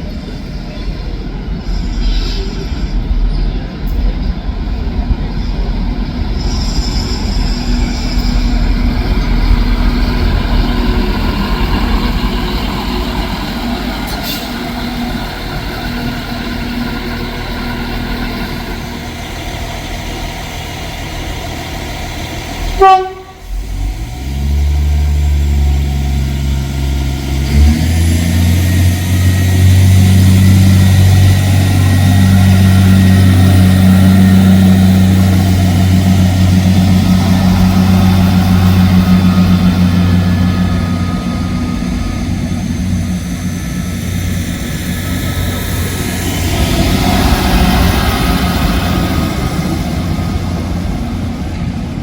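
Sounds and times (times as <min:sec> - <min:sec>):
diesel train engine accelerating: 0:00.0 - 0:52.0
train rumbling: 0:00.0 - 0:52.0.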